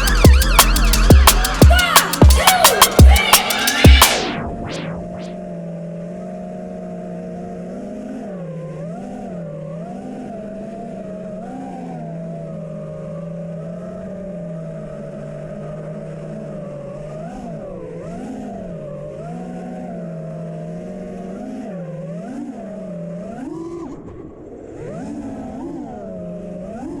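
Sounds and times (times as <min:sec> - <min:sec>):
drone motors and propellers whining: 0:00.0 - 0:27.0.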